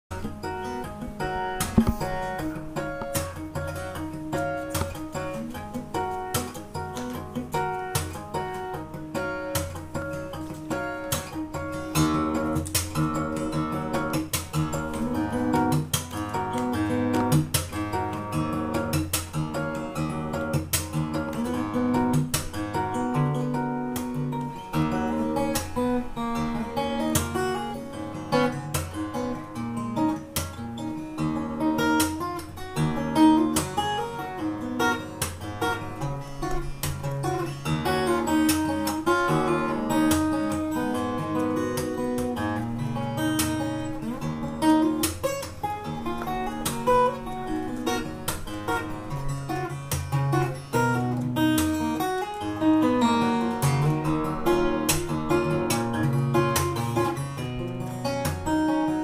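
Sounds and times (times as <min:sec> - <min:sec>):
fingerstyle acoustic guitar: 0:00.1 - 0:59.0.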